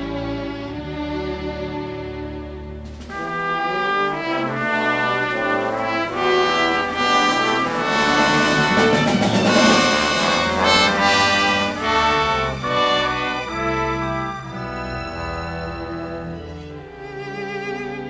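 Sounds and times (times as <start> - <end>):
orchestral brass chords: 2.2 - 17.2.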